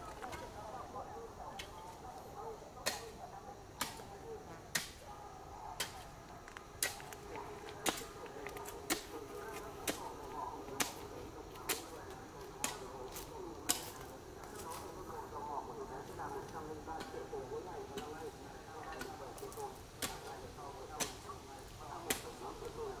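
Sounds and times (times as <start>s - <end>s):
faint wavering background noise: 0.0s - 23.0s.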